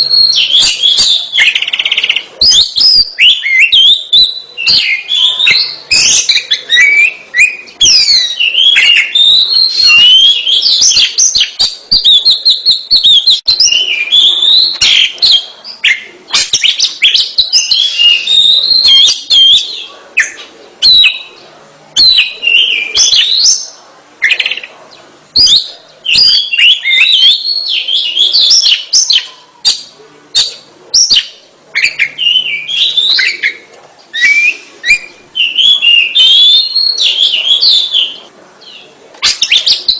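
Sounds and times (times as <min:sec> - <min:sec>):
bird singing whistled phrases: 0:00.0 - 0:21.4, 0:22.0 - 0:24.7, 0:25.4 - 0:39.9.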